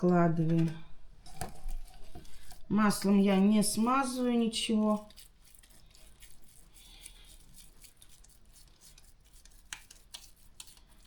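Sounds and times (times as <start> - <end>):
paper rustle: 0.5 - 11.0.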